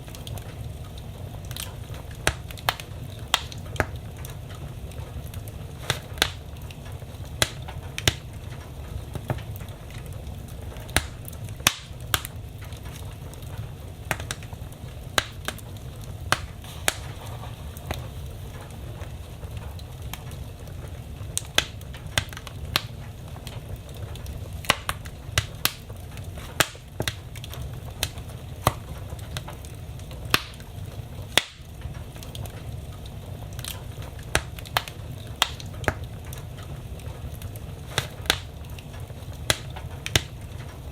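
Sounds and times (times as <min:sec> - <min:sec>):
low fire rumble: 0:00.0 - 0:40.9
wood fire crackling and popping: 0:00.0 - 0:40.9.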